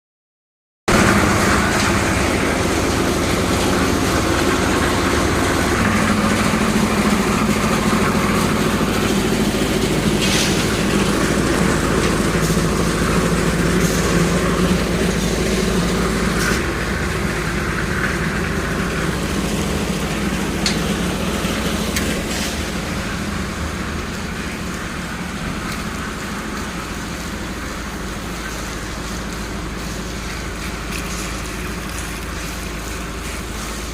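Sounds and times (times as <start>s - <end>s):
construction machine engine running: 0.9s - 33.9s.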